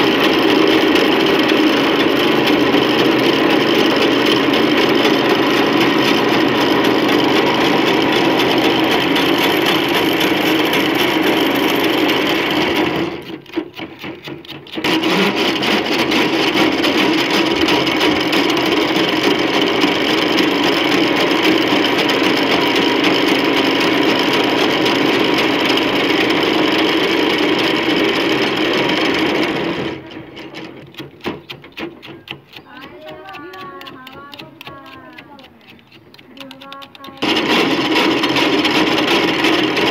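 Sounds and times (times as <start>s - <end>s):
cotton candy machine whirring: 0.0s - 39.9s.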